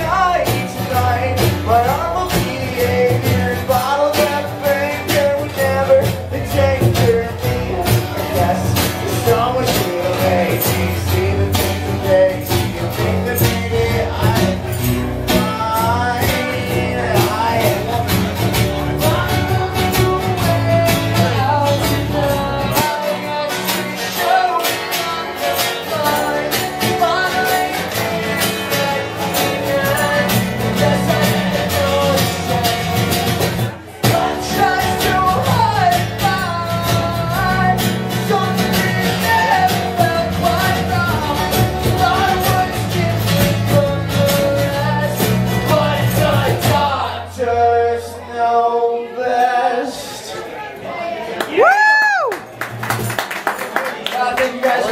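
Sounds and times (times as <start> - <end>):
cajon drumming: 0.0 - 46.9
strummed acoustic guitars: 0.0 - 50.0
man singing lead vocal: 0.0 - 50.5, 54.2 - 54.9.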